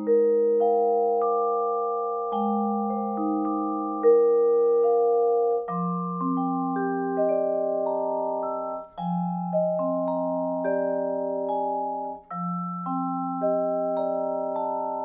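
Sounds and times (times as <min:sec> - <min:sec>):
vibraphone chords ringing: 0:00.0 - 0:15.0.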